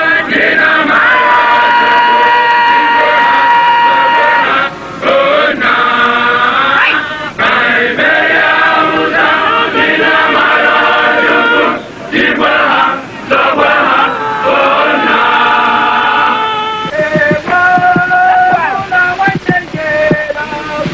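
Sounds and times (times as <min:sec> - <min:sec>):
group of men singing: 0:00.0 - 0:20.9.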